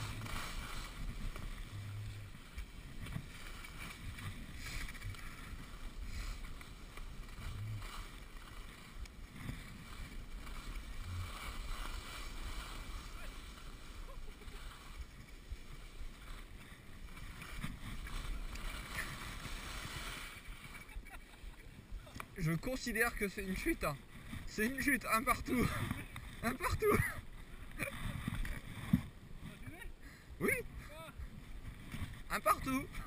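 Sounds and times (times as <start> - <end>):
skis scraping over snow: 0.0 - 33.0
wind rumbling on microphone: 0.0 - 33.0.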